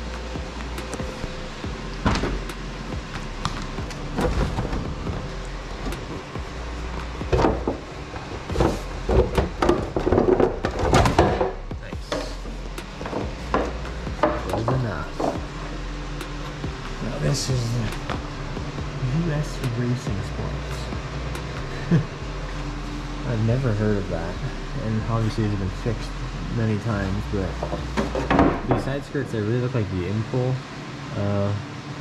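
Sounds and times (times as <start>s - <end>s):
background music: 0.0s - 32.0s.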